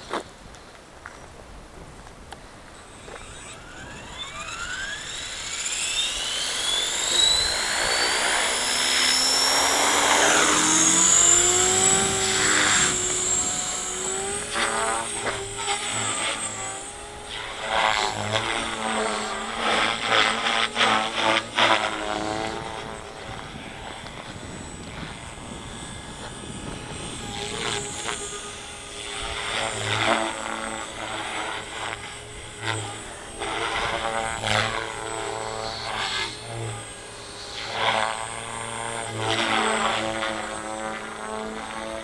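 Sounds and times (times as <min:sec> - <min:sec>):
electric motor whine: 0:00.0 - 0:42.0
rc helicopter rotor buzz: 0:00.0 - 0:42.0.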